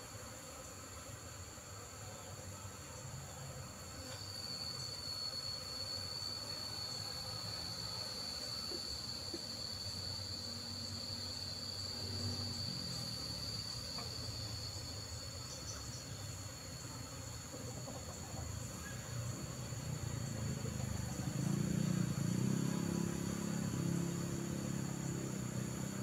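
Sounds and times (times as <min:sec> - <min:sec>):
honeybees humming: 0:00.0 - 0:26.0
high-pitched insect call: 0:02.0 - 0:26.0.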